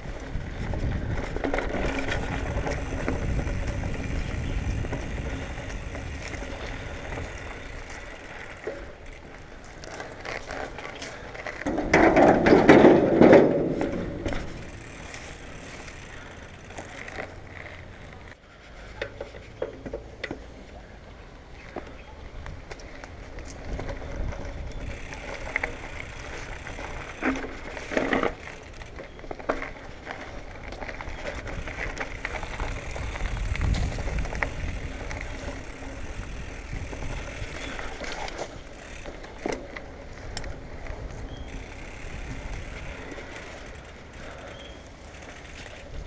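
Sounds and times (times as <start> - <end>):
bike rattling: 0.0 - 21.0, 21.6 - 46.0
bike tyres rolling on dirt: 0.0 - 46.0.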